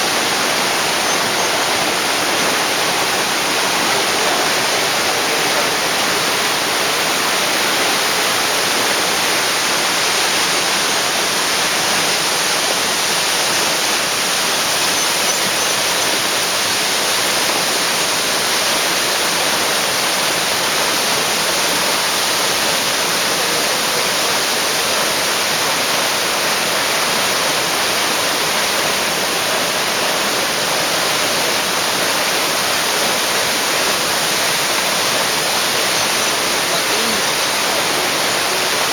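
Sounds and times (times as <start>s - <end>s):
waterfall crashing: 0.0s - 38.9s.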